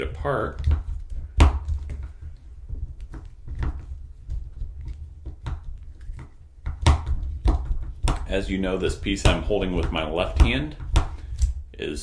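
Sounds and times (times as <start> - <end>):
low rumble of parts handled: 0.0 - 9.7.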